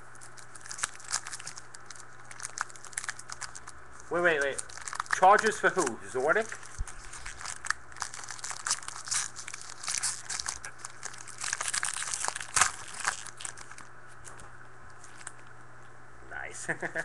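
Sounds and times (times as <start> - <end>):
card wrappers crinkling: 0.0 - 15.5
faint low hum: 0.0 - 17.0.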